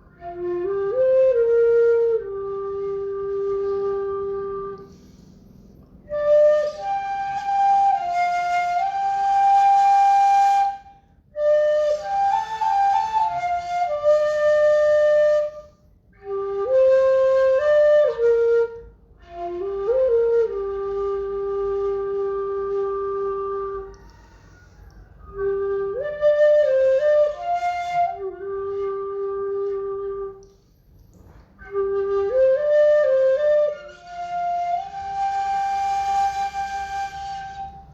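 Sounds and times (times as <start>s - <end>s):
bamboo flute melody: 0.0s - 37.9s.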